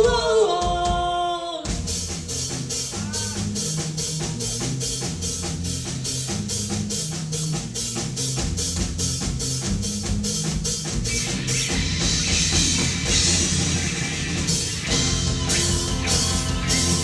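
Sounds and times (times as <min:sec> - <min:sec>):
drum kit steady beat: 0:00.0 - 0:17.0
moving bass line: 0:01.7 - 0:17.0.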